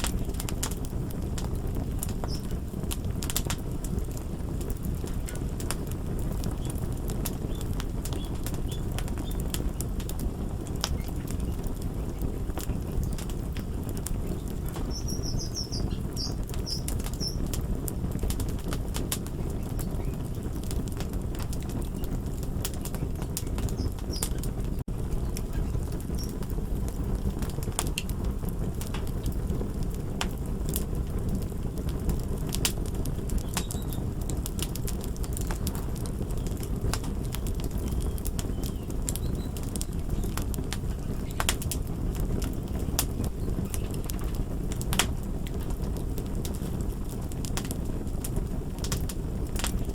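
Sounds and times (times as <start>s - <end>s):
fire crackling and popping: 0.0s - 49.9s.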